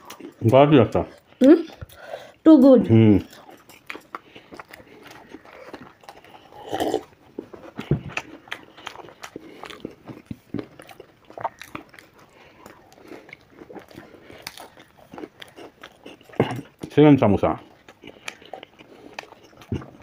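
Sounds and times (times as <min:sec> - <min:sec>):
people chewing crunchy food: 0:00.0 - 0:20.0.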